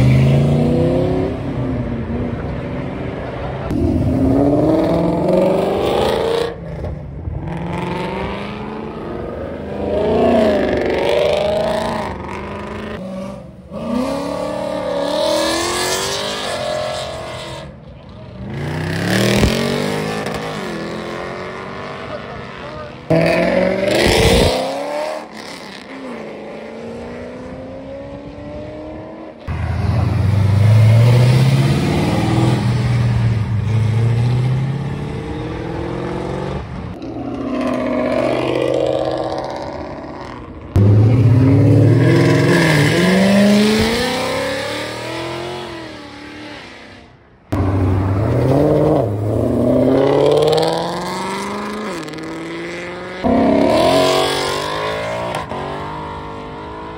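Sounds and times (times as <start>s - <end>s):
car engines revving hard: 0.0s - 56.9s.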